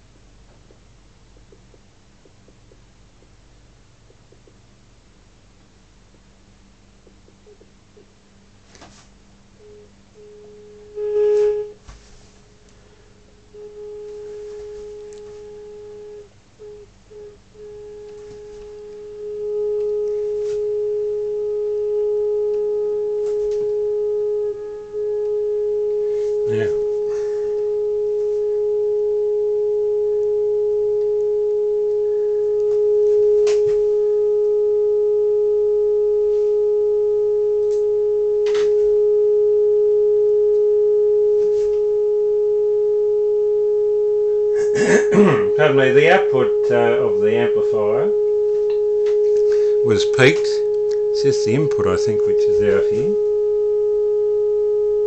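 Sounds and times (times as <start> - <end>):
steady beat-note tone: 0.6 - 4.9, 6.2 - 8.2, 9.6 - 11.8, 13.4 - 54.2.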